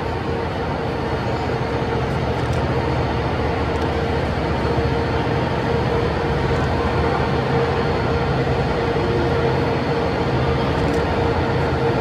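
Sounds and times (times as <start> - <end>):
overhead crane humming: 0.0 - 12.0.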